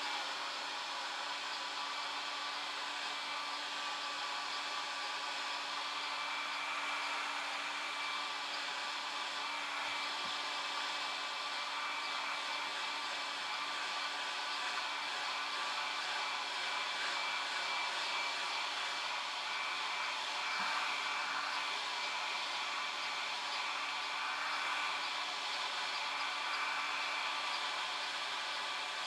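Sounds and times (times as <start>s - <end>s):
steady whirring hiss: 0.0s - 29.0s.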